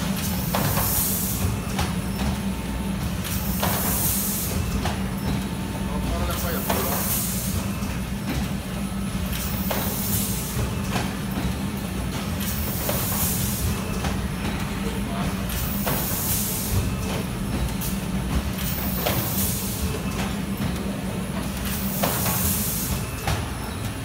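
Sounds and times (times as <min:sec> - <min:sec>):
machine hissing: 0:00.0 - 0:20.4, 0:21.6 - 0:23.8.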